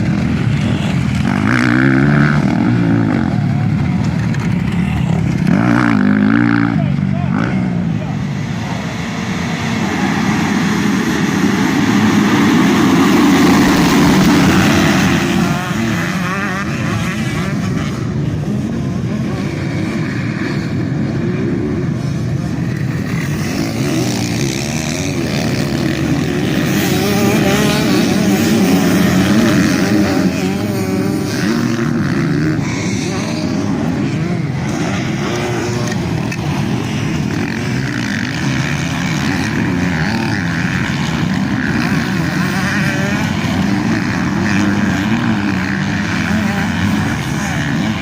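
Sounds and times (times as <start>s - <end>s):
motorcycle engines racing past: 0.0s - 48.0s.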